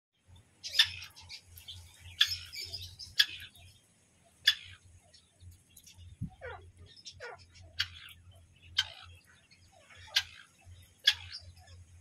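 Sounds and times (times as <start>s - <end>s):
faint bird chirps: 0.2s - 12.0s
francolin calls: 0.6s - 12.0s.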